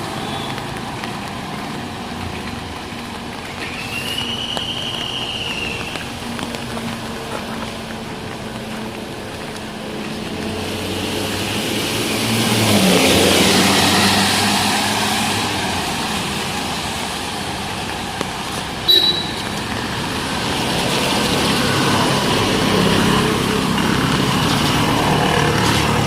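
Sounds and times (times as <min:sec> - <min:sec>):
vehicle passing on wet street: 0:00.0 - 0:26.0.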